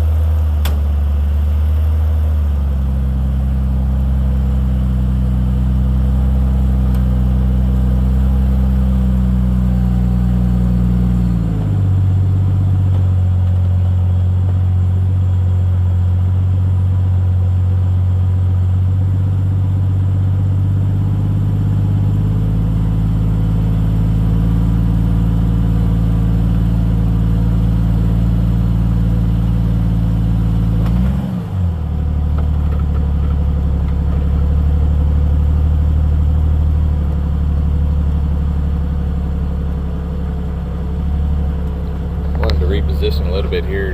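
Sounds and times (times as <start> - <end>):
vehicle engine running under load: 0.0 - 43.9.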